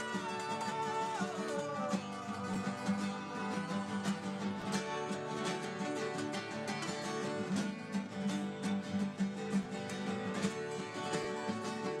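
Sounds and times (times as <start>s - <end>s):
acoustic guitars strumming: 0.0s - 12.0s.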